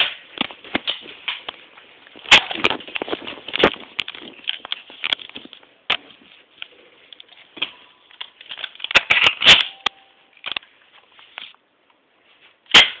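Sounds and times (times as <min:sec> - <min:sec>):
objects being handled: 0:00.0 - 0:13.0.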